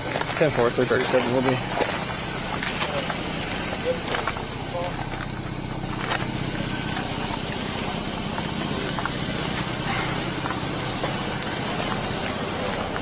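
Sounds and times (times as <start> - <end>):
car engines idling: 0.0 - 13.0
steady hiss: 0.0 - 13.0.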